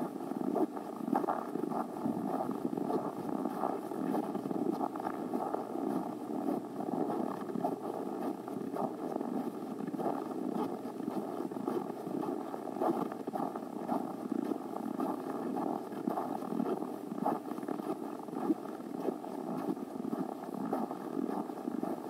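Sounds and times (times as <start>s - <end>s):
footsteps crunching in snow: 0.7s - 22.0s.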